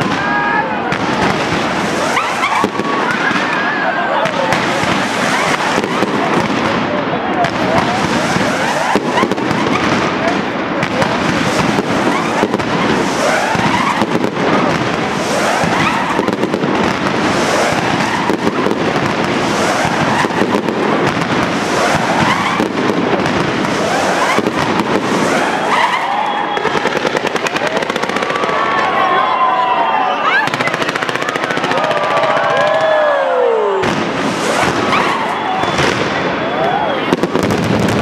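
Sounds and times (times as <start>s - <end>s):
fireworks crackling and banging: 0.0s - 38.0s
fireworks whistles: 0.0s - 38.0s.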